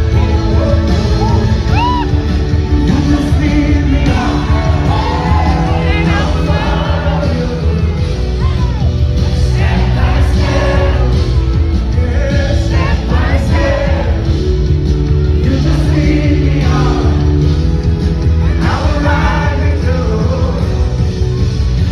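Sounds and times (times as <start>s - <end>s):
music with singing: 0.0s - 21.9s
steady bass: 0.0s - 21.9s.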